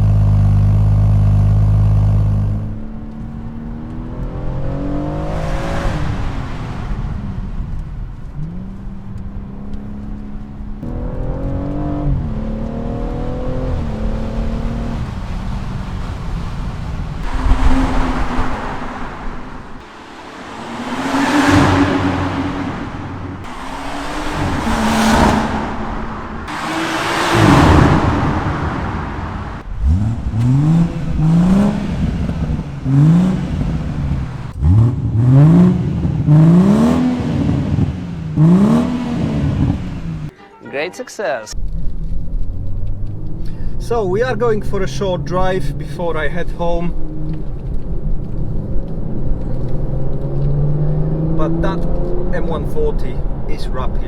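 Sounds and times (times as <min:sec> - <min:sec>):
car engine revving: 0:00.0 - 0:40.4, 0:41.6 - 0:54.0.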